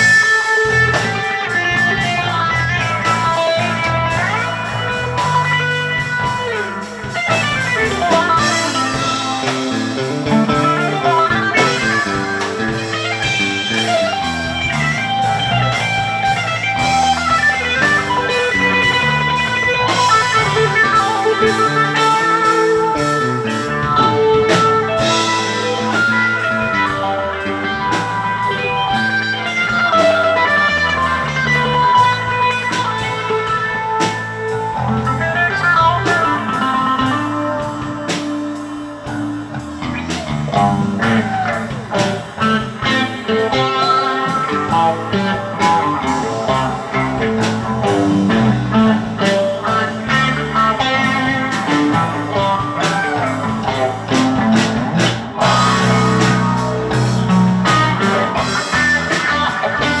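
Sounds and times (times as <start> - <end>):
live rock band jamming: 0.0 - 60.0.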